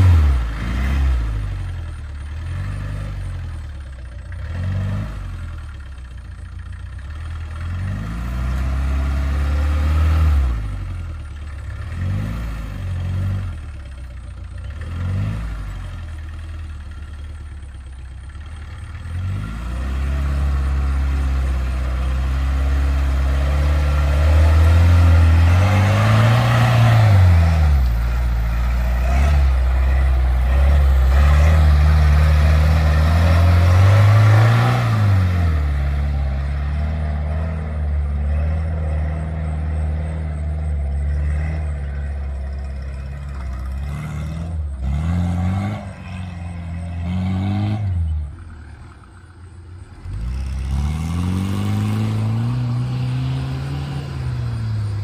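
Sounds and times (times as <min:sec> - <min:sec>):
jeep engine revving: 0:00.0 - 0:55.0.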